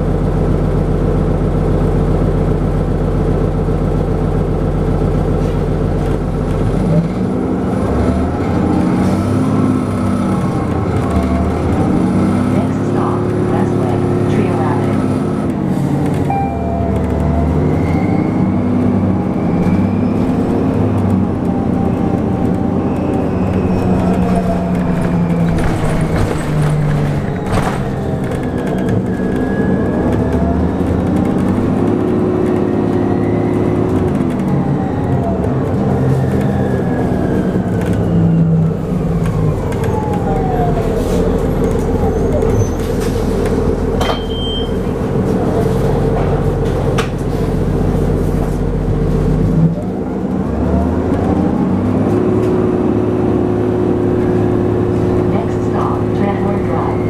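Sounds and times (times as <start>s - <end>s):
bus engine and drive hum: 0.0s - 57.0s.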